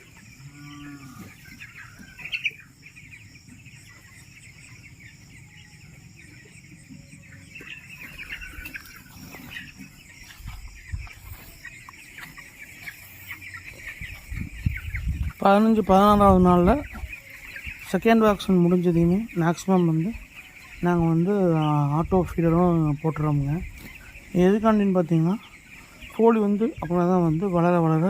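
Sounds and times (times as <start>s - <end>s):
chickens cheeping: 0.0s - 28.0s.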